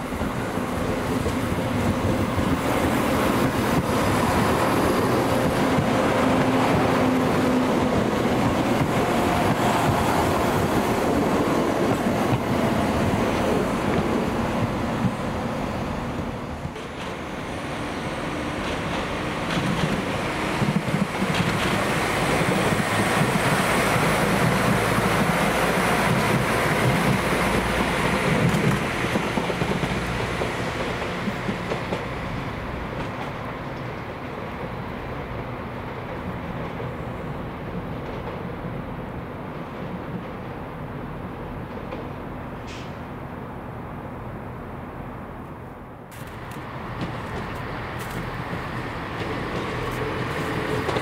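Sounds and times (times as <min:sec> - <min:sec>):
passenger train passing: 0:00.0 - 0:51.0.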